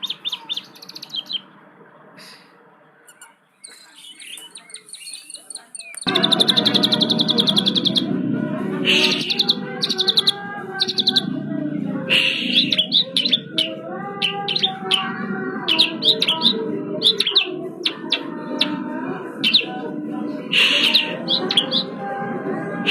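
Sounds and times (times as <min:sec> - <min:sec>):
starling singing: 0:00.0 - 0:01.6, 0:03.0 - 0:22.9.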